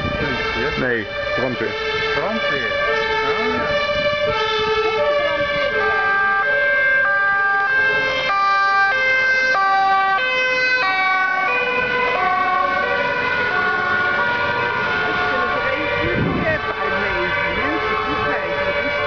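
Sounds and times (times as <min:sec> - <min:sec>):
two-tone sirens: 0:00.0 - 0:19.0.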